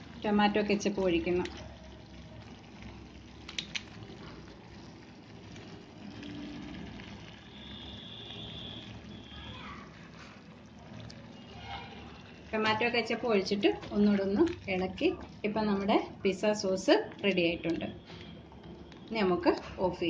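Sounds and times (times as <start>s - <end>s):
sauce simmering and bubbling: 0.0s - 19.8s.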